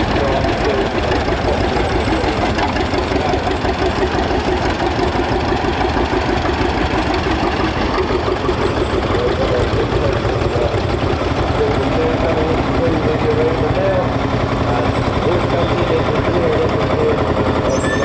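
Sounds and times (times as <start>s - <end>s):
tractor engines running: 0.0s - 18.0s.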